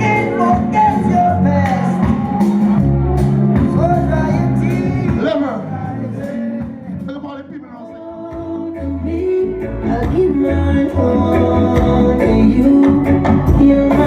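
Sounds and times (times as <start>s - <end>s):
heavy bass line: 0.0s - 14.0s.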